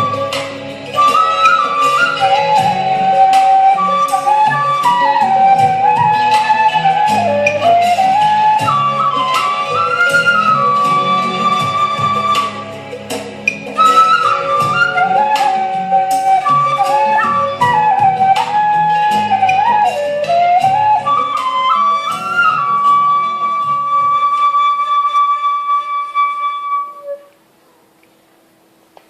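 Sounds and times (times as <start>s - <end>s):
backing track with low chords: 0.0s - 24.8s
bamboo flute melody: 0.0s - 27.4s.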